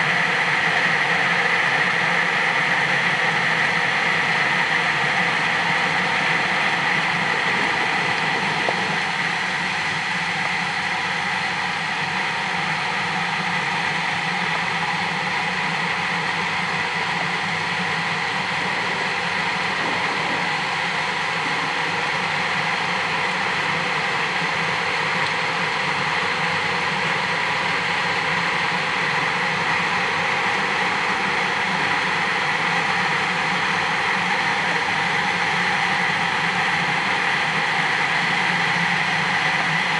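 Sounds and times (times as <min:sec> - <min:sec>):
underwater mechanical hum with whine: 0:00.0 - 0:39.9.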